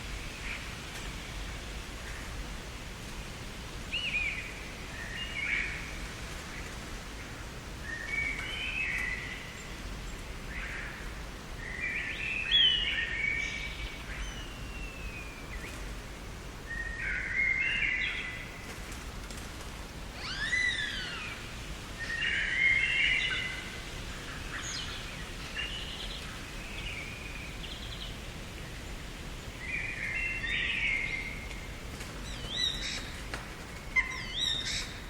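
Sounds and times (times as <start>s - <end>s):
low background hiss: 0.0s - 35.0s
songbirds singing: 3.9s - 18.6s, 20.2s - 35.0s.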